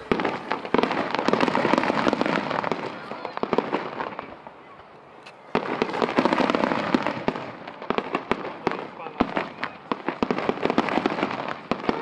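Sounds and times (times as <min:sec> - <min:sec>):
firework crackling: 0:00.0 - 0:12.0
fireworks bursting: 0:00.0 - 0:12.0.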